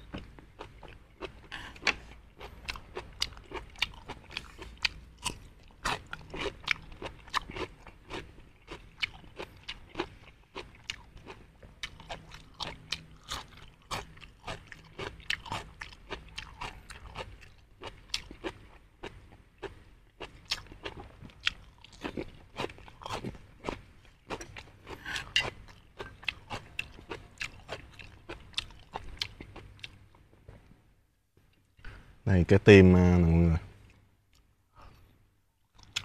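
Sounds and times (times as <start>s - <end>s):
person chewing crunchily: 0.1s - 30.0s, 35.8s - 36.0s.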